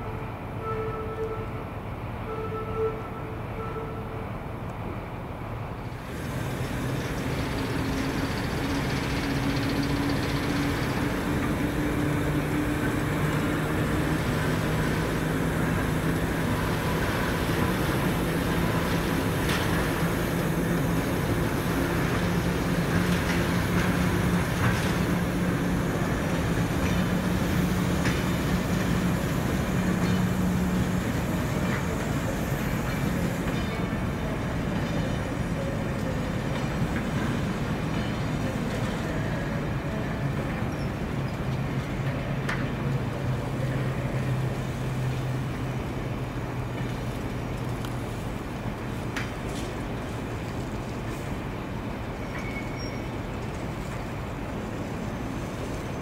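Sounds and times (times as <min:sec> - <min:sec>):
diesel locomotive engine humming: 0:00.0 - 0:56.0
wheels clicking over rails: 0:06.0 - 0:56.0.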